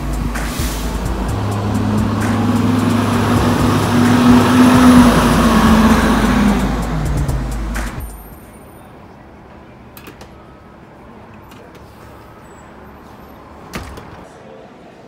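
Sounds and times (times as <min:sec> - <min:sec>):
distant traffic hum: 0:00.0 - 0:14.4.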